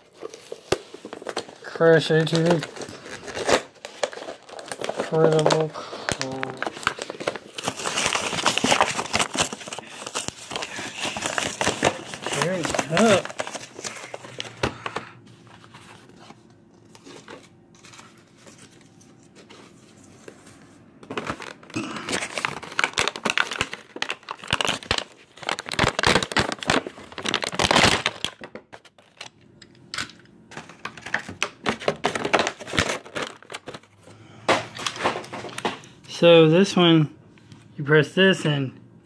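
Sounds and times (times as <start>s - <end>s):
plastic packaging crackling: 0.0s - 19.6s, 21.0s - 29.4s, 30.5s - 34.0s.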